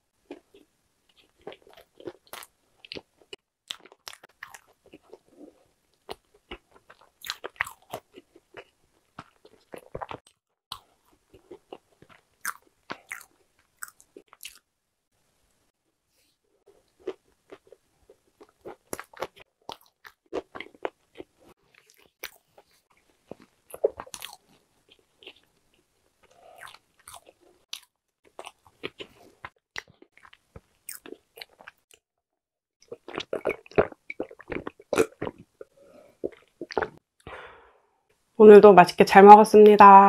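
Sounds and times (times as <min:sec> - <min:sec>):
crunchy chewing: 0:00.3 - 0:14.6, 0:16.7 - 0:31.9, 0:32.8 - 0:37.0.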